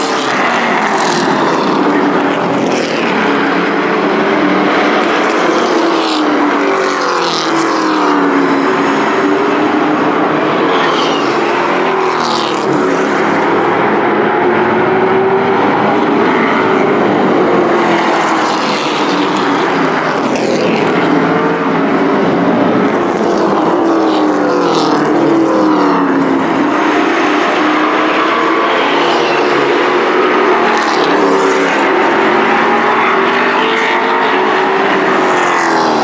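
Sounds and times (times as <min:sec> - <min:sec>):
race truck engines revving: 0:00.0 - 0:36.0.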